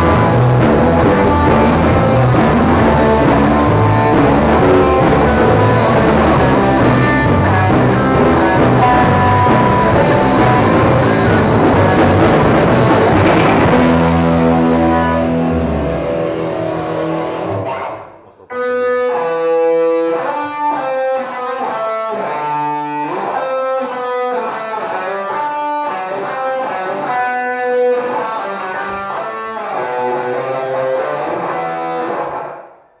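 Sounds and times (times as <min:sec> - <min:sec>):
electric guitar chord and melody: 0:00.0 - 0:32.8.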